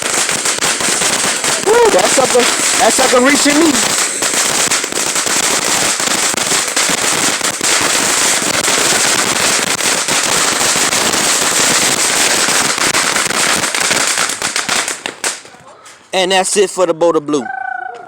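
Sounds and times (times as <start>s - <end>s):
firework fountain hissing sparks: 0.0s - 15.6s
dense crackling: 0.0s - 16.6s.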